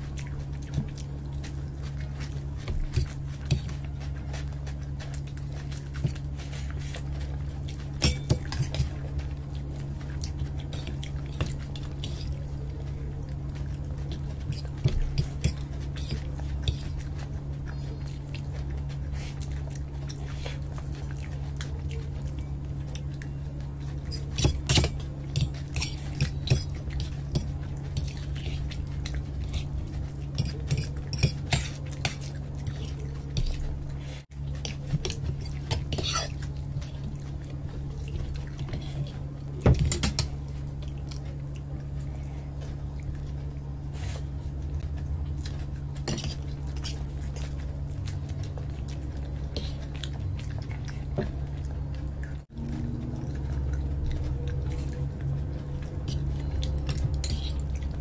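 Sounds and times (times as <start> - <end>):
chewing: 0.0 - 58.0
steady low hum: 0.0 - 58.0.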